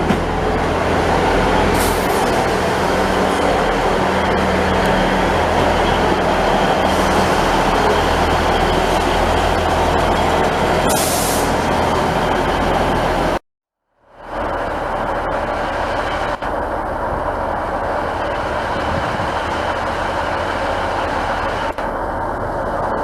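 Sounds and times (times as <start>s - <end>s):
train rumbling: 0.0s - 13.4s, 14.1s - 23.0s.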